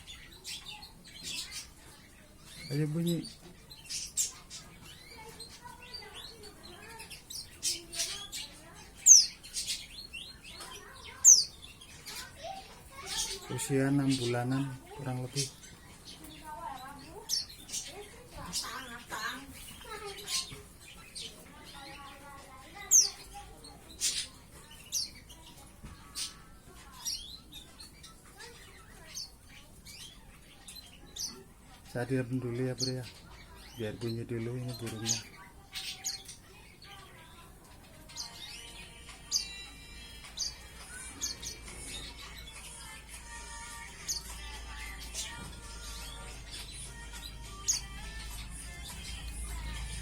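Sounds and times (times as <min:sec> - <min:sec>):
bird chirping: 0:00.0 - 0:50.0.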